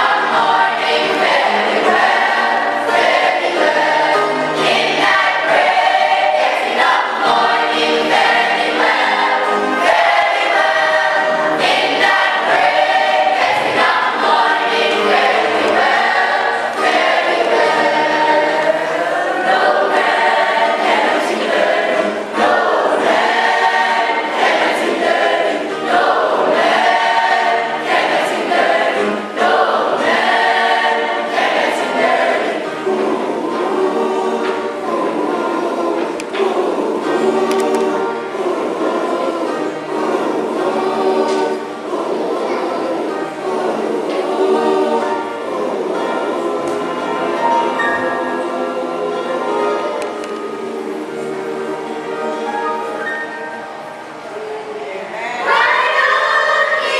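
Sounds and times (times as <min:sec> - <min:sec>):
church choir singing: 0:00.0 - 0:56.9.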